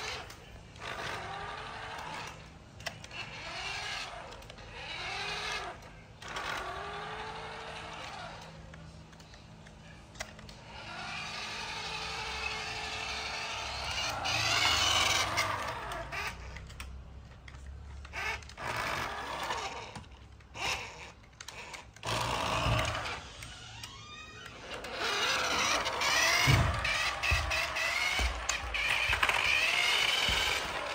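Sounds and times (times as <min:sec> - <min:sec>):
toy truck motor and gears whirring: 0:00.0 - 0:30.9.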